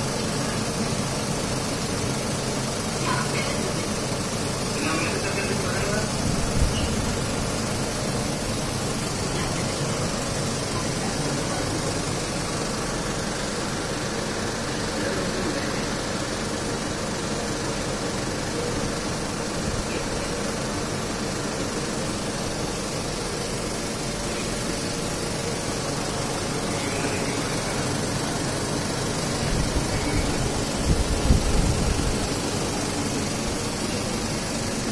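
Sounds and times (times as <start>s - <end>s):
steady mechanical hum: 0.0s - 34.9s.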